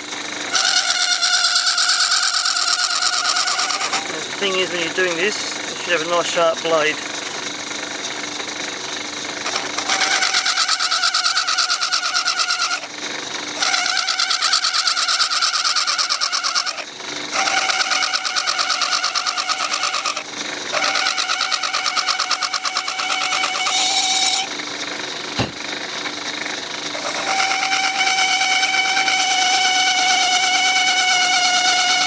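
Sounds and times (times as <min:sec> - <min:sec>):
blade scraping spinning workpiece: 0:00.0 - 0:32.0
lathe humming: 0:00.0 - 0:32.0.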